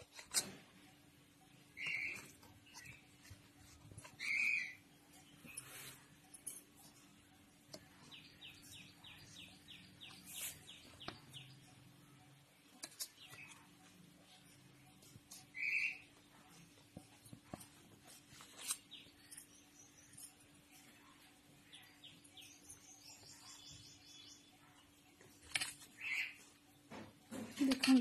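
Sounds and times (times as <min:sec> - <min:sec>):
bird chirping: 0:00.9 - 0:16.6, 0:18.6 - 0:27.0.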